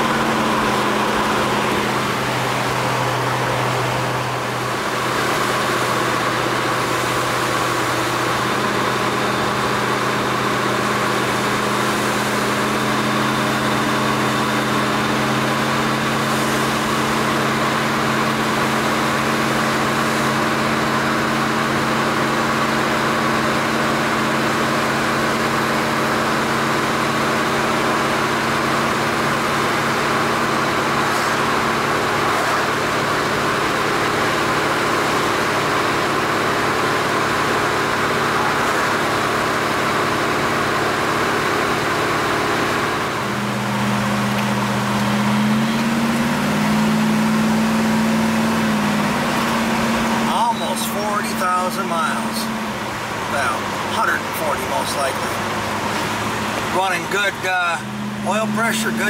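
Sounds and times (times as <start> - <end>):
car engine cruising: 0.0 - 59.0
low engine tone: 0.0 - 59.0
road noise: 0.0 - 59.0.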